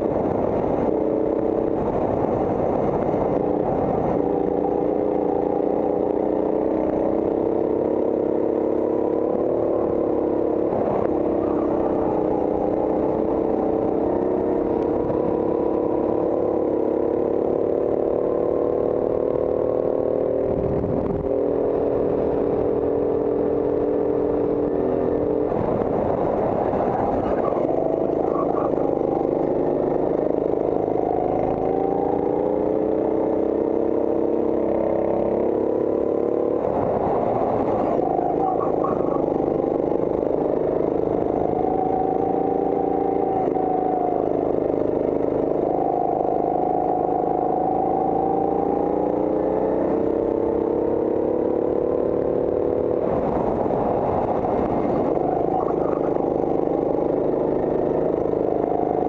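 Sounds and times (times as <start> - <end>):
go-kart engine buzzing drone: 0.0 - 59.0.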